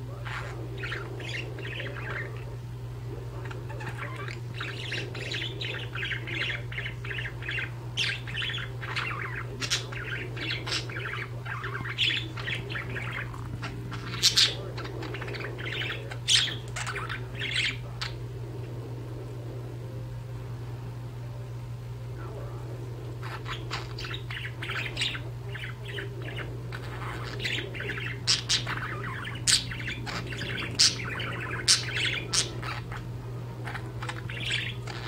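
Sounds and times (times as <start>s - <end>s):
steady low hum: 0.0s - 35.0s
budgerigars chirping: 0.1s - 2.6s, 3.3s - 18.2s, 23.2s - 35.0s.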